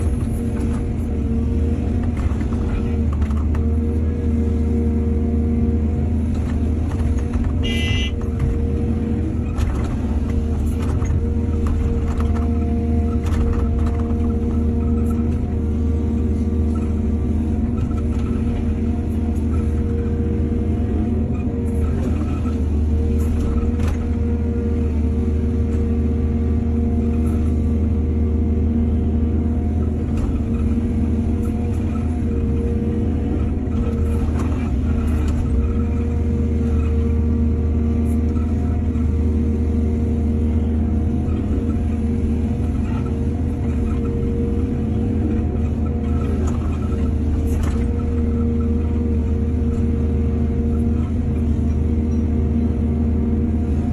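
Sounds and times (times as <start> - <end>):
excavator diesel engine rumbling: 0.0 - 53.9.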